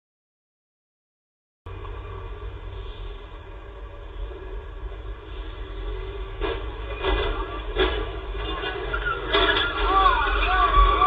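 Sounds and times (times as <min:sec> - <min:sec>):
droning engine: 0:01.7 - 0:11.0
road traffic rumble: 0:01.7 - 0:11.0.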